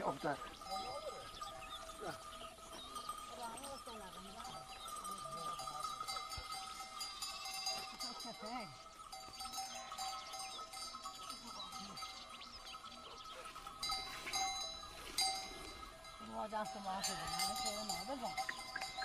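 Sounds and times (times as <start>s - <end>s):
goat bells jangling: 0.0s - 19.0s.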